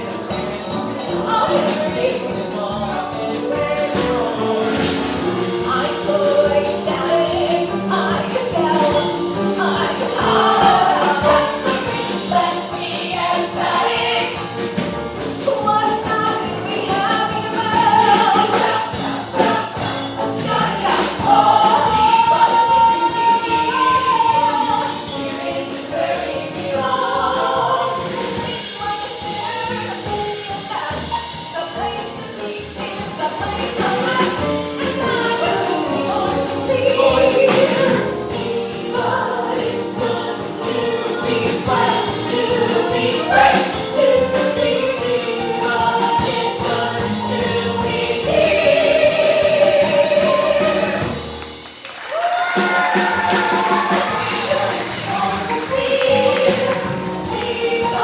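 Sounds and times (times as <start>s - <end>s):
instrumental accompaniment: 0.0s - 58.0s.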